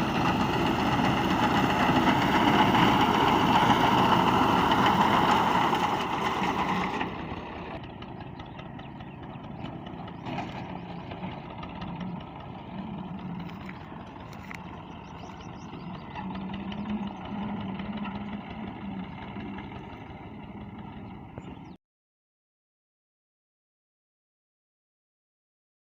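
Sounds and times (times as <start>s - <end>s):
tractor engine running: 0.0s - 21.8s.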